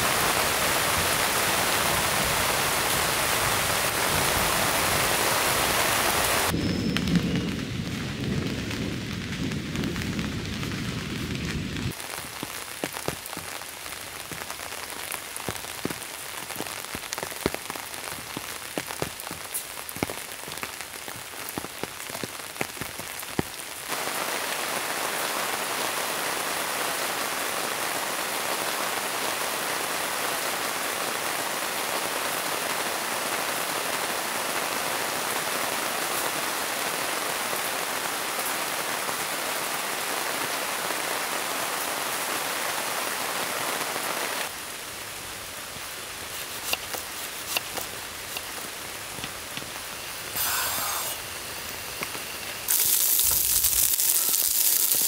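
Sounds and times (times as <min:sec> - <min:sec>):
heavy rain: 0:00.0 - 0:55.0
rain drumming on tent fabric: 0:00.0 - 0:55.0.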